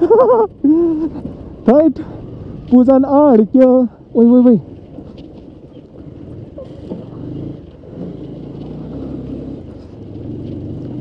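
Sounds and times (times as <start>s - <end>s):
crackles from loose gravel: 0.0s - 11.0s
motorcycle engine running: 0.8s - 11.0s.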